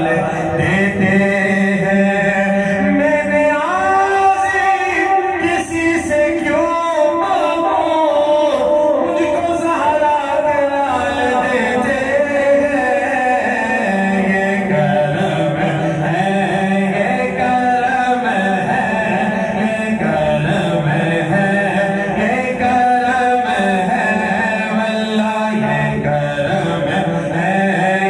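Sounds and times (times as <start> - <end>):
men singing a devotional chant: 0.0 - 28.0.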